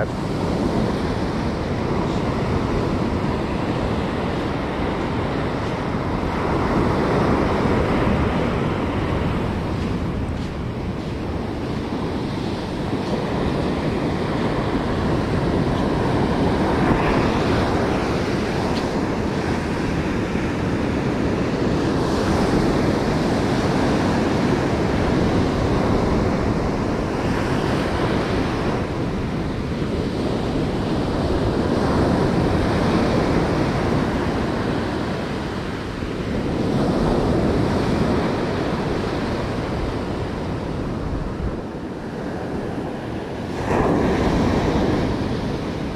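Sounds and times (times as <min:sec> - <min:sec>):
ocean surf on beach: 0:00.0 - 0:45.9.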